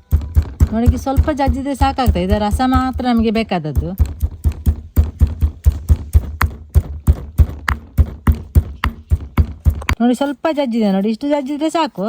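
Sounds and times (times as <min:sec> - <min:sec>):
pestle pounding in mortar: 0:00.0 - 0:10.0.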